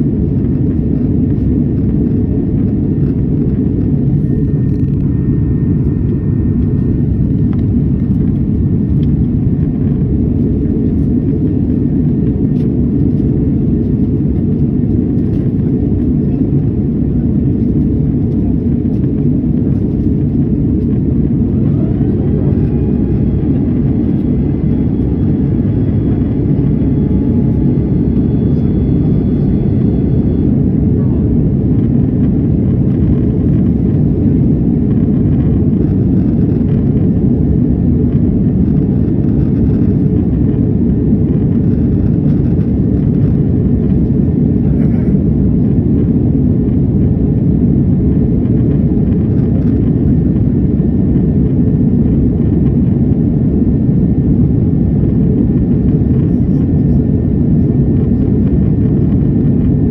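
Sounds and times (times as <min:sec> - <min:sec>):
airliner cabin rumble: 0:00.0 - 0:59.9
faint whine: 0:00.0 - 0:59.9.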